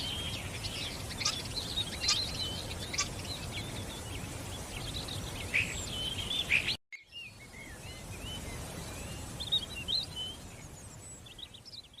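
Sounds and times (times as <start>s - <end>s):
outdoor background hiss: 0.0s - 12.0s
songbirds chirping: 0.0s - 12.0s.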